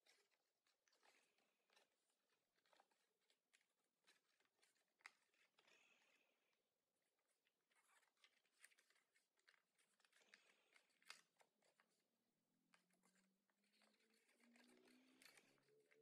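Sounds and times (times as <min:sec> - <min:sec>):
paper crinkling and creasing: 0:00.0 - 0:16.0.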